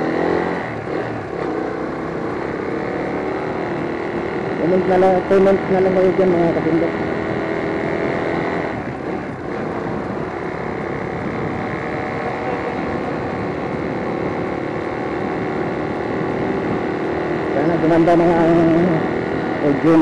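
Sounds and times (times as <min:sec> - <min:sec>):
motorcycle engine drone: 0:00.0 - 0:20.0
wind rushing over microphone: 0:00.0 - 0:20.0.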